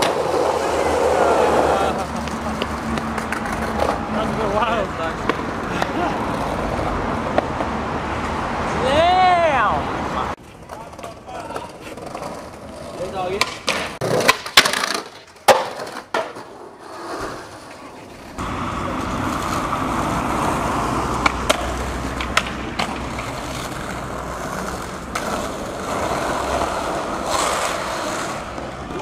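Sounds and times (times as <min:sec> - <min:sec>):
skateboard clacking on ground: 0:00.0 - 0:06.6, 0:10.4 - 0:29.0
skateboard wheels rolling on pavement: 0:00.0 - 0:29.0.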